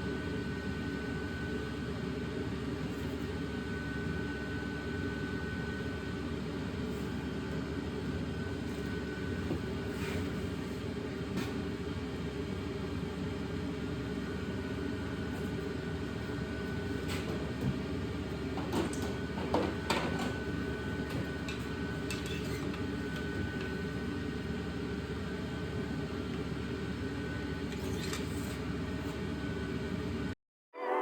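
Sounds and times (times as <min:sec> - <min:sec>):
steady background hum: 0:00.0 - 0:30.4.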